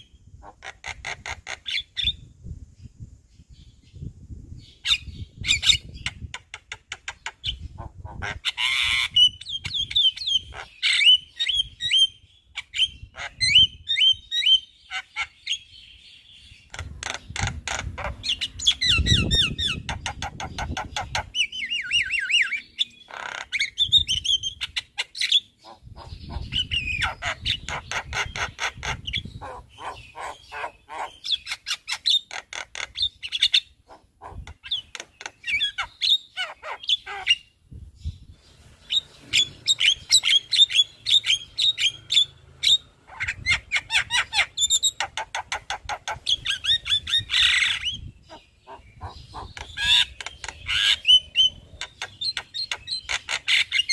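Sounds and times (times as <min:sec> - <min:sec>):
bird singing chattering song: 0:00.0 - 0:53.9.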